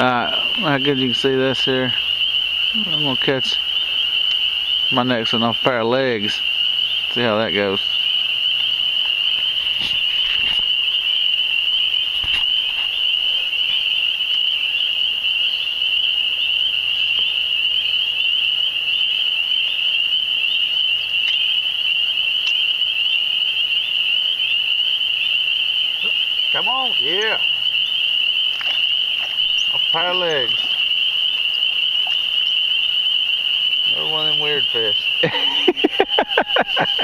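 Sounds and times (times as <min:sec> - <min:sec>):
chorus of frogs peeping: 0:00.0 - 0:37.0.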